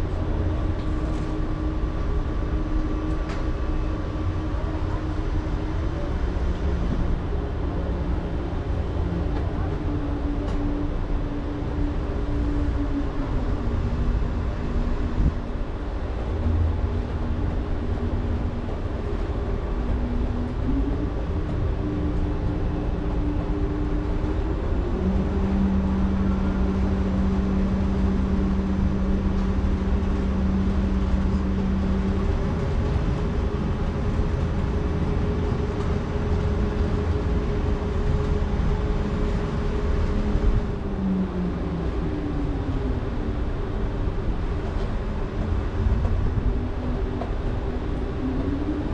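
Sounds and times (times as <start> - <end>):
ferry machinery rumble and hum: 0.0 - 48.9.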